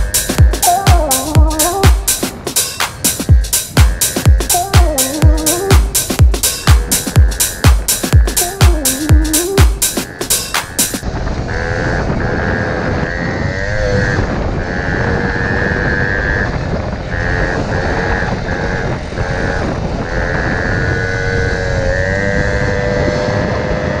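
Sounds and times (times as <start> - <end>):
high engine whine: 0.0 - 24.0
moped engine running: 0.0 - 24.0
wind rumbling on microphone: 0.0 - 24.0.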